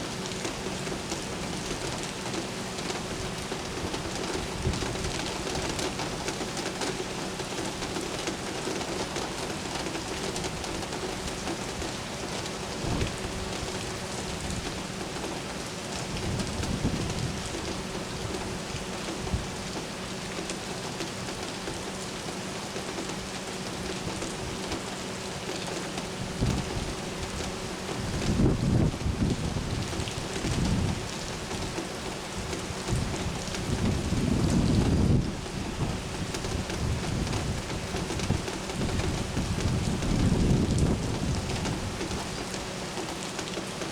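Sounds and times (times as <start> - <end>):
rain on hard surfaces: 0.0 - 43.9.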